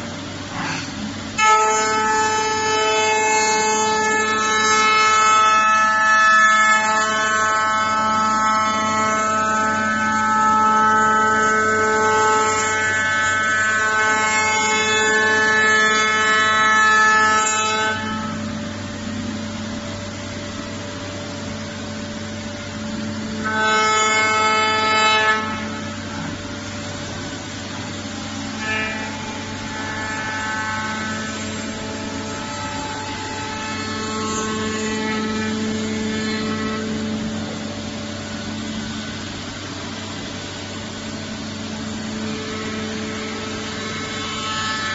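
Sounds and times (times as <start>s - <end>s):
router spindle whine milling wood: 0.0s - 44.9s
wood cutting noise: 0.0s - 44.9s.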